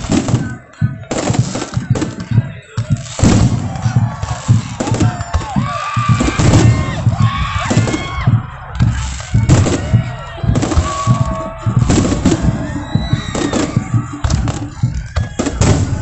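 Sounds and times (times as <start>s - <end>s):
crowd voices: 0.0s - 16.0s
fireworks bangs and booms: 0.0s - 16.0s
music: 0.0s - 16.0s.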